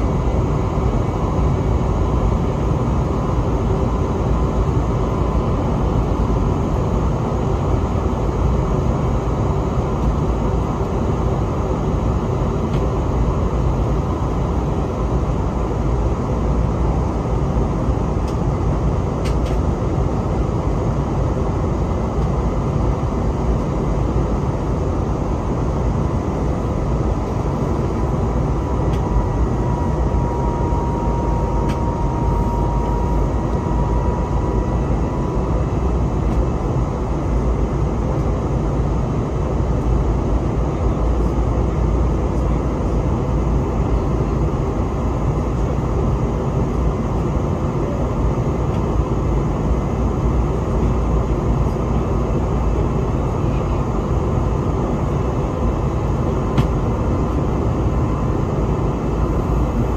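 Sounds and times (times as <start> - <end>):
faint whine: 0.0 - 59.9
jet engine roar: 0.0 - 59.9.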